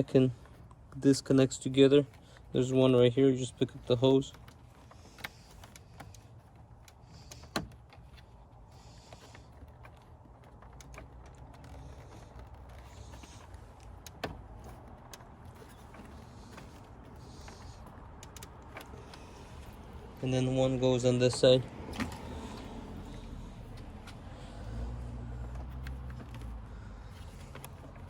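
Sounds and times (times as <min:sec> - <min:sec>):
handling sounds of hoses: 0:00.0 - 0:28.0.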